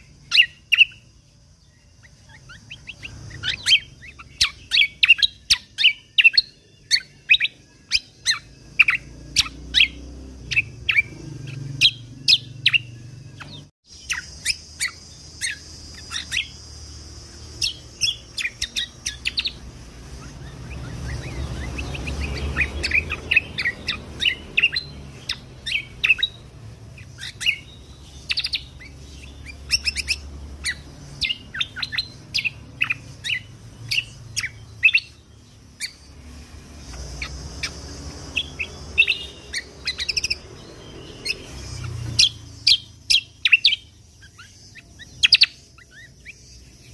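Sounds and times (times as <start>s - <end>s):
songbird chirping and whistling: 0.0s - 46.9s.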